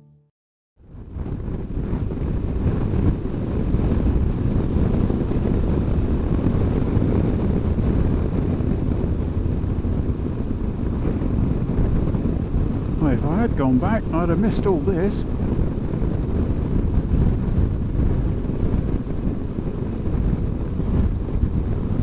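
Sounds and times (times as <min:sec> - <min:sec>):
wind buffeting microphone: 0:00.8 - 0:22.0
motorcycle running: 0:01.0 - 0:22.0.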